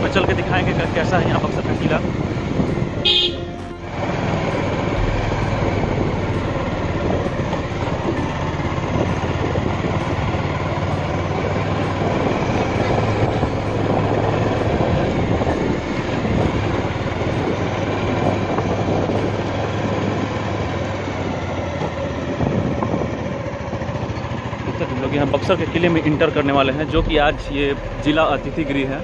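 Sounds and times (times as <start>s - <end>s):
motorcycle engine hum: 0.0s - 29.0s
wind and road noise: 0.0s - 29.0s.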